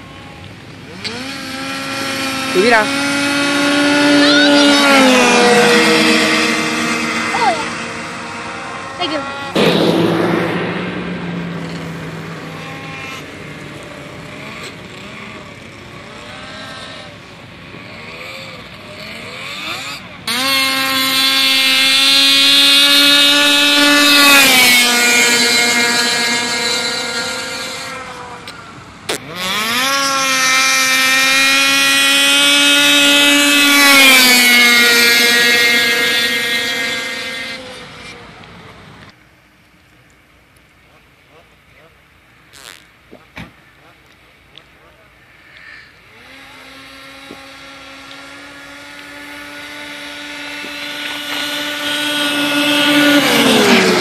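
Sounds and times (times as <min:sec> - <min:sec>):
snowmobile engine passing: 0:00.0 - 0:39.0, 0:45.6 - 0:54.0.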